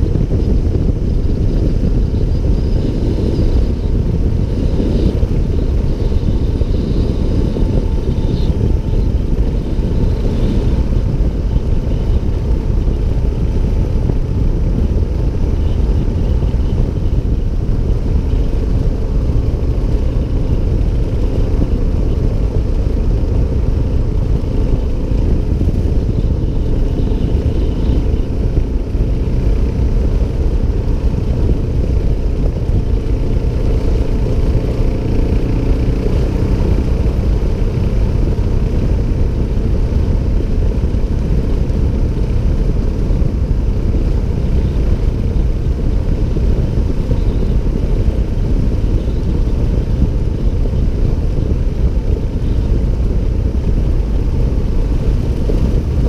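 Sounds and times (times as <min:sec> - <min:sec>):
motorcycle riding on gravel: 0:00.0 - 0:56.0.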